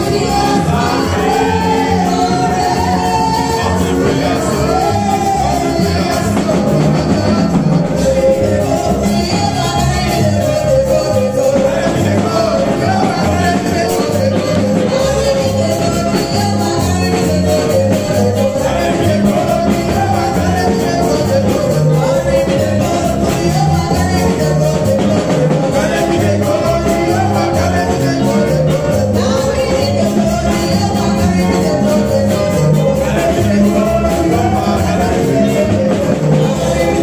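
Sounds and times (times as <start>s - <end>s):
upbeat gospel music: 0.0s - 37.0s.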